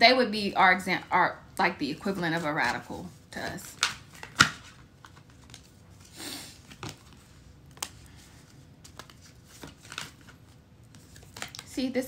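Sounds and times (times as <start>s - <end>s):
cards rustling while shuffled: 2.0s - 11.8s.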